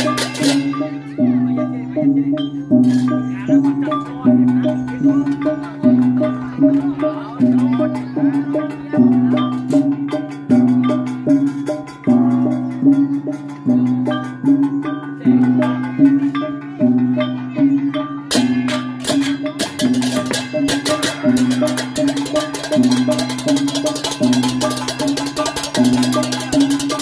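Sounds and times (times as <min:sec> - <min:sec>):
gongs ringing: 0:00.0 - 0:27.0
hand drum strokes: 0:00.0 - 0:27.0
rapid clashing cymbals: 0:00.0 - 0:27.0.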